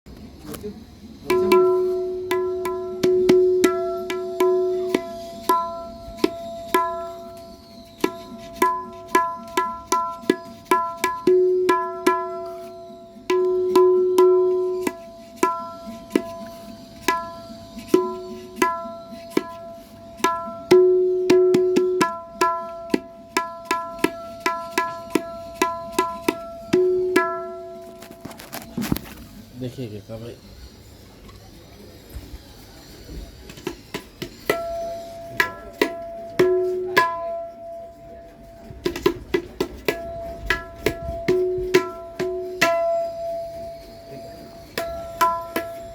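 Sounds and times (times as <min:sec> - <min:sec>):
tabla strokes: 0:00.4 - 0:45.9.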